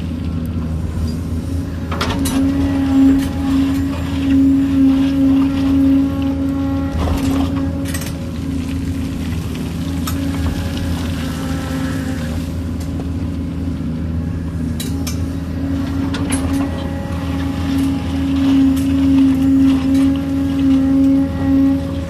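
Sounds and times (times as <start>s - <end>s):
excavator engine and hydraulics: 0.0s - 22.0s.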